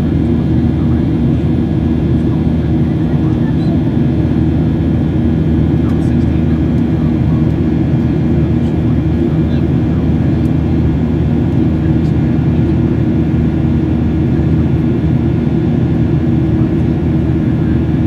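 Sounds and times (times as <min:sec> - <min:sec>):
jet engines droning: 0:00.0 - 0:18.0
steady hums: 0:00.0 - 0:18.0.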